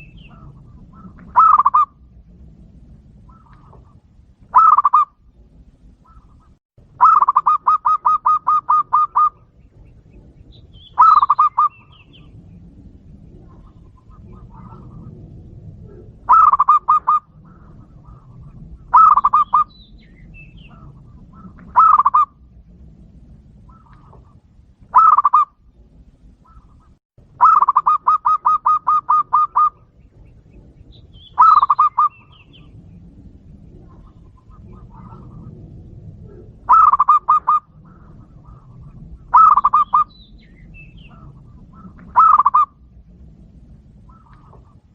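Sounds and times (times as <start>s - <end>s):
dove cooing: 0.0s - 2.1s, 3.2s - 22.5s, 23.6s - 44.9s.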